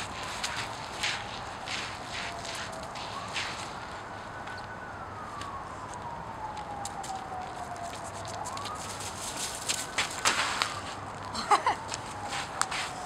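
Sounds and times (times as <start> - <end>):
footsteps on icy driveway: 0.0 - 4.8, 6.5 - 13.0
distant siren wailing: 0.0 - 13.0.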